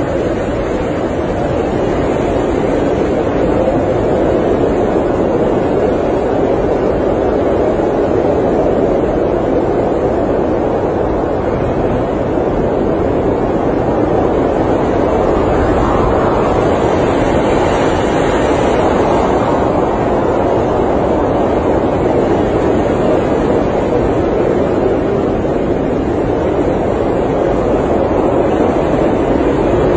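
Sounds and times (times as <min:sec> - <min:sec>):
blizzard wind: 0:00.0 - 0:29.9.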